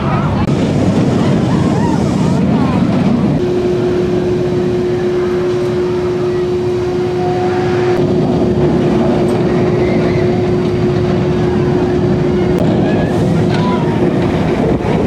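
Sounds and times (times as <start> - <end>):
constant hum: 0.0 - 15.0
roller coaster rumbling on track: 0.0 - 15.0.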